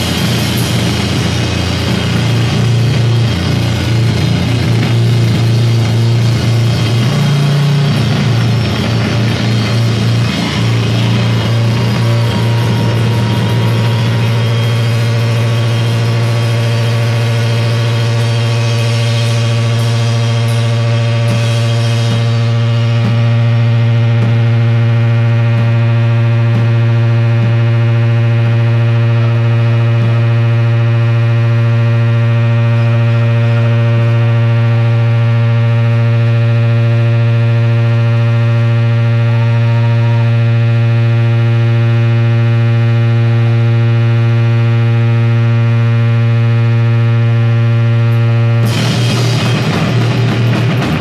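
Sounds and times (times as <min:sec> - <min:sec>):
electric guitar drone: 0:00.0 - 0:51.0
guitar feedback tones: 0:00.0 - 0:51.0.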